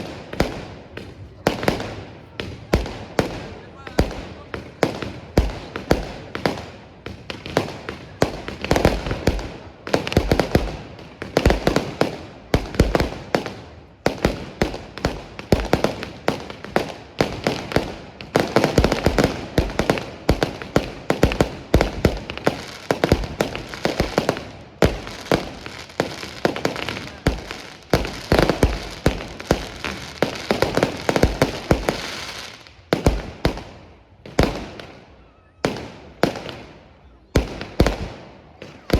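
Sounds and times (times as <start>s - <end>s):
fireworks bursting: 0.0s - 38.9s
fireworks crackle: 0.0s - 38.9s.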